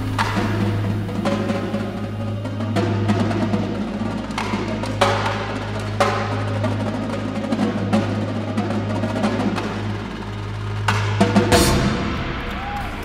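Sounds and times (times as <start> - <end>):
mallet percussion: 0.0 - 12.4
drumline playing: 0.0 - 13.0.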